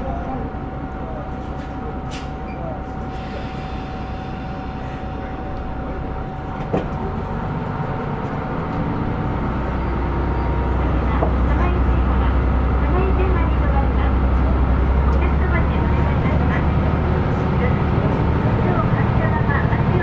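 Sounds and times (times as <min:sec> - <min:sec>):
diesel railcar running: 0:00.0 - 0:20.0.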